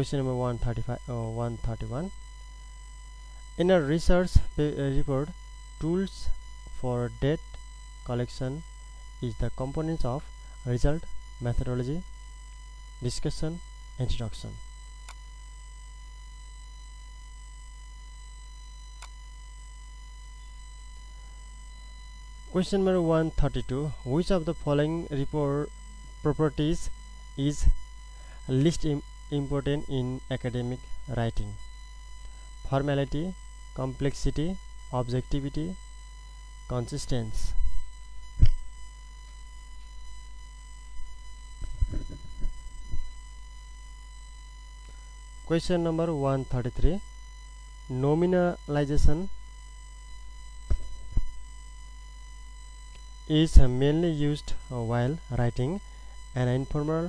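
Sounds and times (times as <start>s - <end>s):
high electrical whine: 0.0s - 57.0s
low mains hum: 0.0s - 57.0s.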